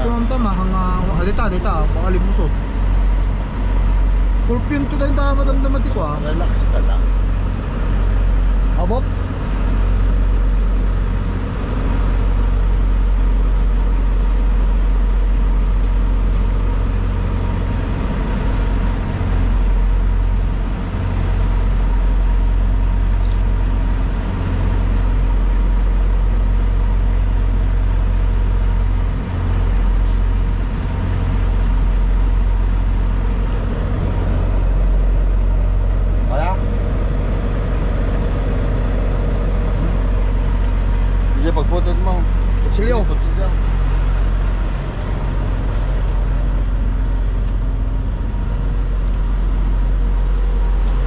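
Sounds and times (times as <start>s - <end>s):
truck engine drone: 0.0s - 51.0s.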